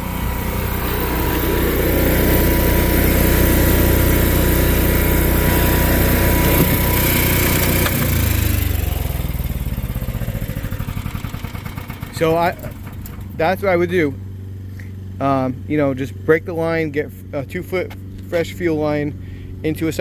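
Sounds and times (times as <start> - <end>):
generator running: 0.0 - 20.0.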